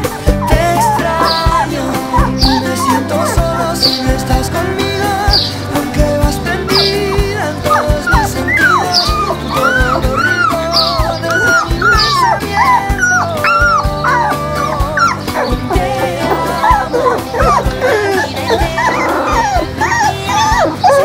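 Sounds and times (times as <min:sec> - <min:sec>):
background music with beat: 0:00.0 - 0:21.0
puppies whimpering: 0:00.0 - 0:21.0.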